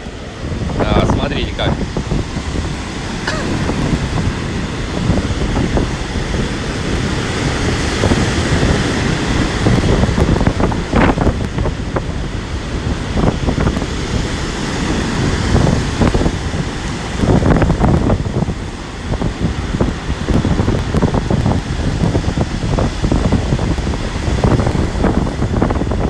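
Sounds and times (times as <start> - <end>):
waves breaking on shore: 0.0 - 26.0
wind buffeting microphone: 0.0 - 26.0.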